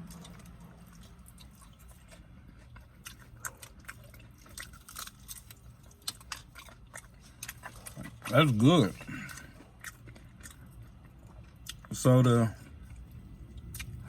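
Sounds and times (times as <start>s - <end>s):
low steady hum: 0.0s - 14.0s
person chewing food: 0.0s - 14.0s.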